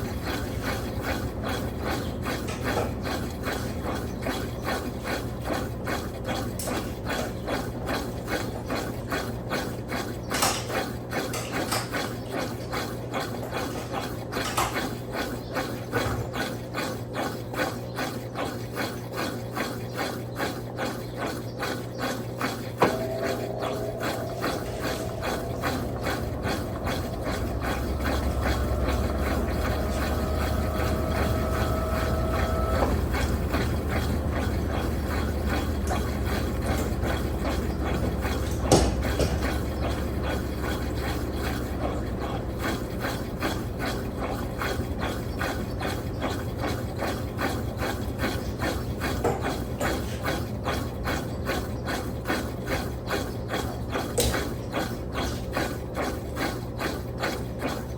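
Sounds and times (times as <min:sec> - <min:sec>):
washing machine motor hum: 0:00.0 - 0:57.9
washing machine whine: 0:00.0 - 0:57.9.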